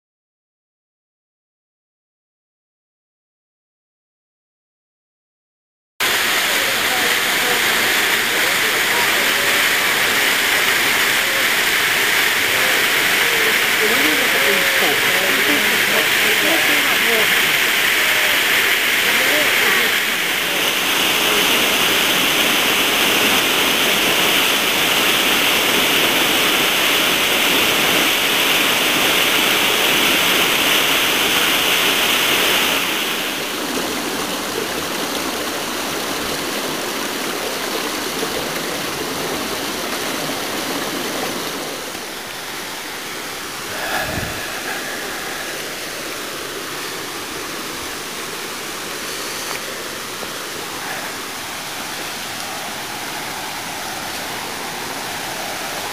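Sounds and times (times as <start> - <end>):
waterfall and stream rushing: 6.0 - 55.9.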